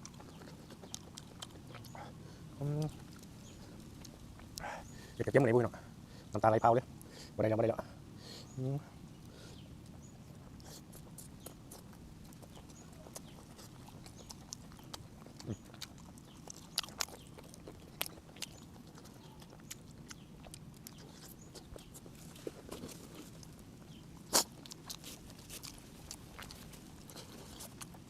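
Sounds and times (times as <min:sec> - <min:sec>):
chewing mouth sounds: 0:00.0 - 0:05.3, 0:09.2 - 0:28.0
low steady hum: 0:00.0 - 0:28.0.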